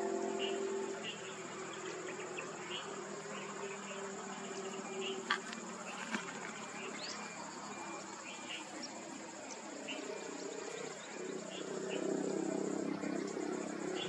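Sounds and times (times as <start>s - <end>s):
faint scooter engine hum: 0.0s - 14.0s
insect chirps: 0.0s - 14.0s
insects droning: 0.0s - 14.0s.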